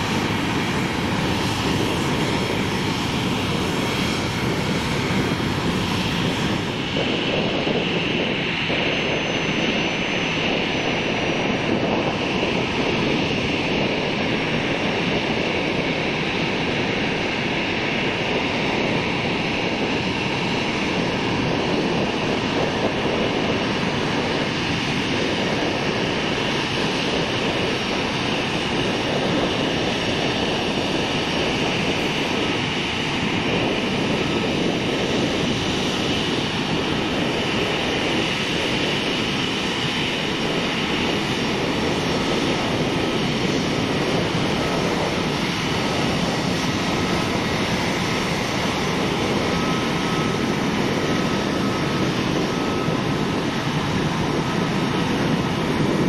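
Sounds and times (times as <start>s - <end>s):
jet engines taxiing: 0.0s - 56.0s.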